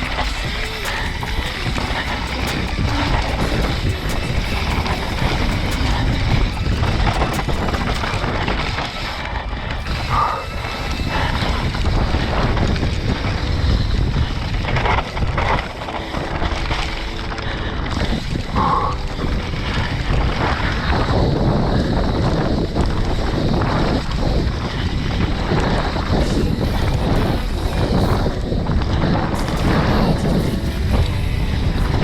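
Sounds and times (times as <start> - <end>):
mountain bike rumble on dirt trail: 0.0 - 32.0
wind buffeting microphone: 0.0 - 32.0.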